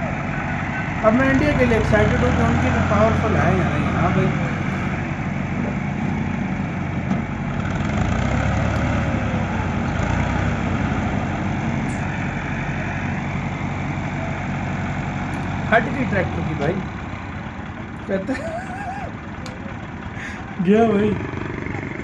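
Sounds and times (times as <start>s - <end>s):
tractor diesel engines under load: 0.0s - 22.0s.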